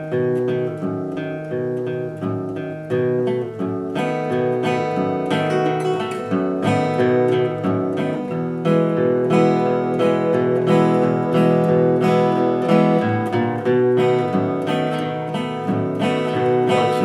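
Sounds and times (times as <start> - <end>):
fingerpicked acoustic guitar blues: 0.0 - 17.0.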